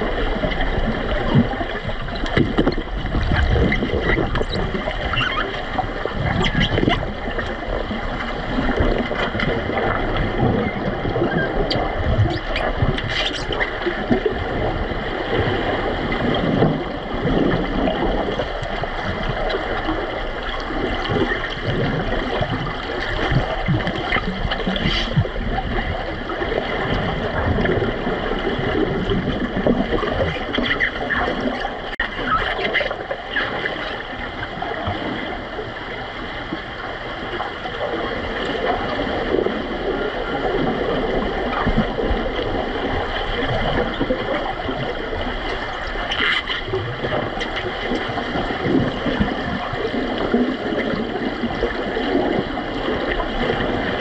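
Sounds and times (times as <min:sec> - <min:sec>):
underwater churning and bubbling: 0:00.0 - 0:54.0.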